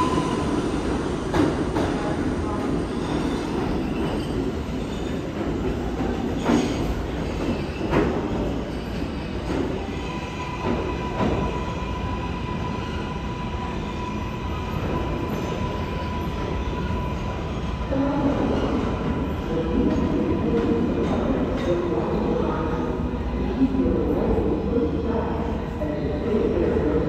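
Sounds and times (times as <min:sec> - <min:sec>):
subway wheels rumbling on rail: 0:00.0 - 0:27.0.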